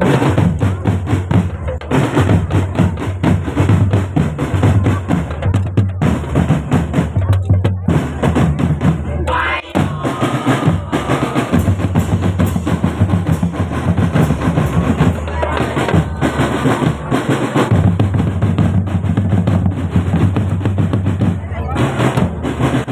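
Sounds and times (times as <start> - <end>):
marching drum band: 0.0 - 22.9.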